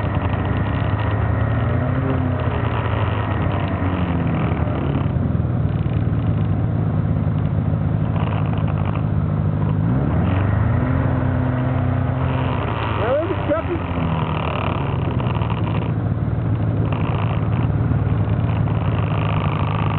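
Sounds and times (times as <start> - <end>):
snowmobile engine running: 0.0 - 19.9.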